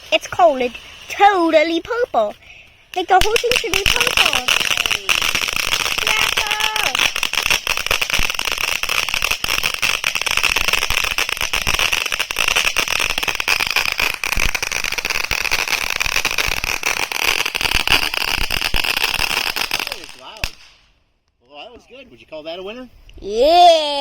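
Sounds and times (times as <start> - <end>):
dense crackling: 0.0 - 21.0
firework fountain hissing: 0.0 - 21.0.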